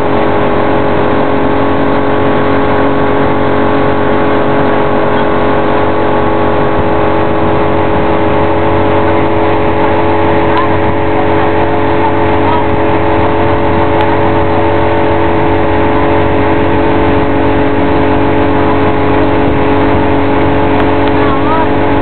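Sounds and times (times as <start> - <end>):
motorboat engine drone: 0.0 - 22.0
wind and water rushing: 0.0 - 22.0.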